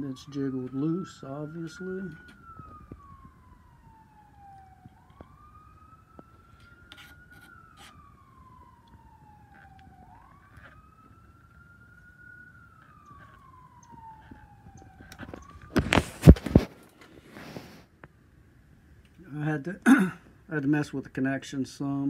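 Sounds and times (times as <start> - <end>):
faint emergency siren wailing: 0.0 - 20.6.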